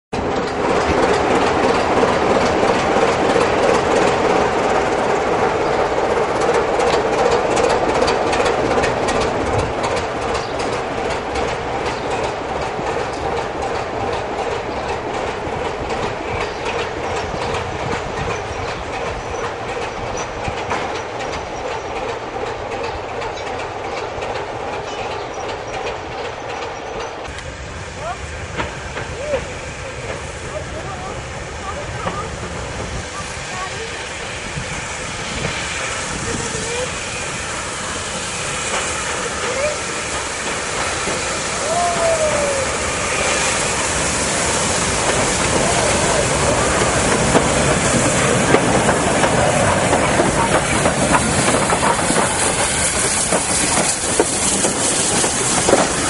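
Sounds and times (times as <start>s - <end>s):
diesel locomotive engine droning: 0.1s - 56.0s
train wheels clattering on rails: 0.1s - 56.0s.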